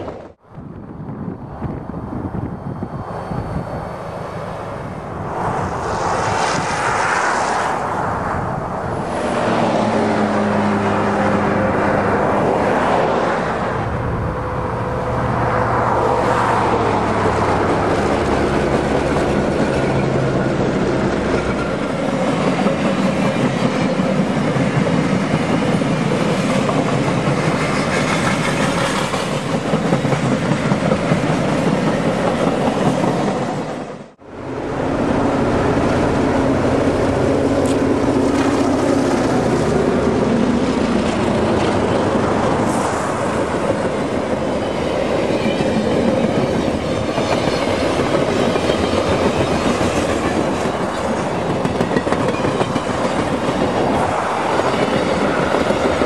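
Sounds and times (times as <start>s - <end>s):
diesel locomotive engines: 0.0s - 56.0s
train wheels rumbling on rails: 0.0s - 56.0s.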